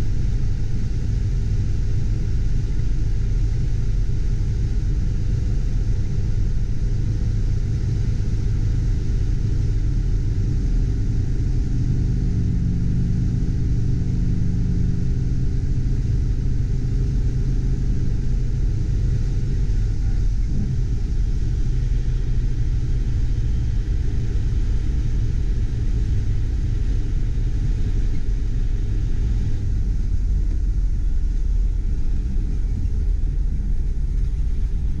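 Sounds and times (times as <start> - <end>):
car engine rumble: 0.0 - 35.0
road and wind noise: 0.0 - 35.0.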